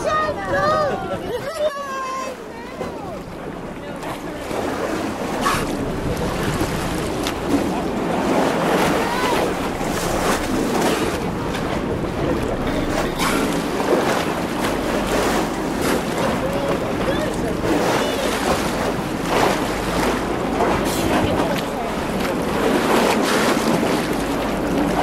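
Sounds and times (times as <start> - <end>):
sea water splashing at bow: 0.0 - 25.0
wind buffeting microphone: 0.0 - 25.0.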